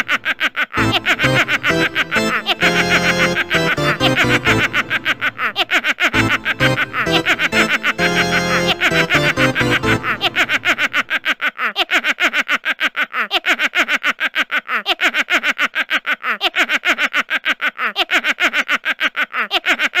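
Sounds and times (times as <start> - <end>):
person cackling laugh: 0.0 - 20.0.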